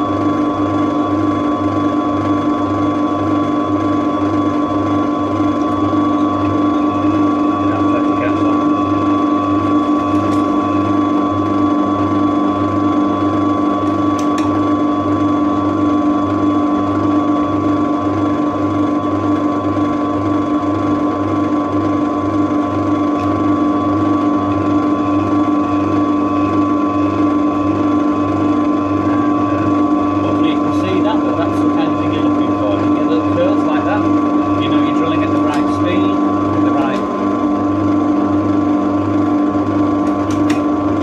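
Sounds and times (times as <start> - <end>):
pillar drill humming: 0.0 - 41.0.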